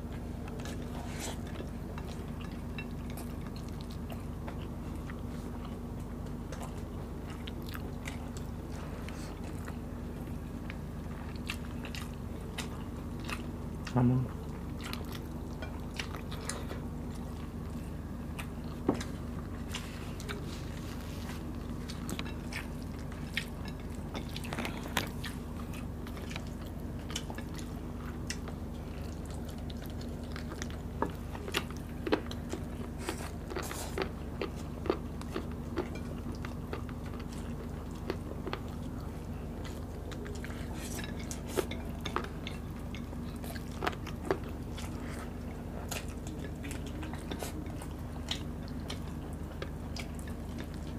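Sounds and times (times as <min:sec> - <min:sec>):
people chewing food: 0:00.0 - 0:50.9
steady low hum: 0:00.0 - 0:50.9.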